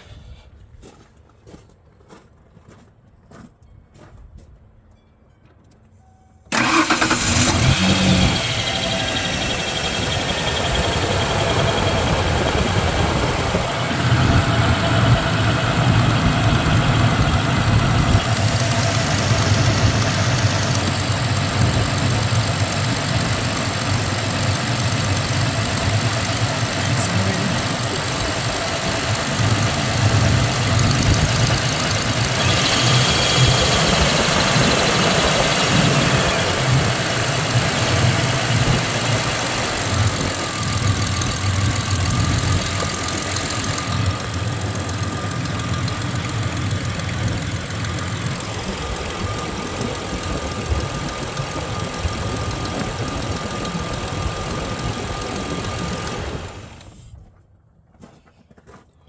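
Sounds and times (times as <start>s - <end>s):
misfiring engine idling: 6.5s - 57.1s.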